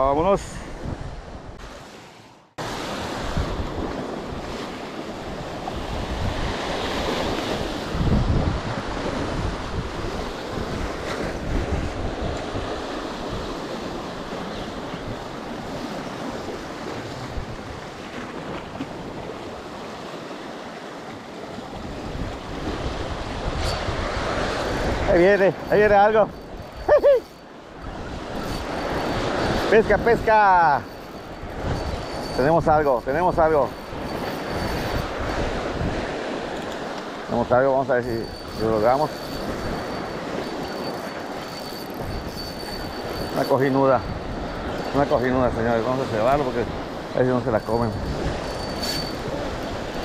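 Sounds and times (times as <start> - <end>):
wind buffeting microphone: 0.0 - 1.8, 2.6 - 50.0
surf breaking on rocky shore: 2.6 - 50.0.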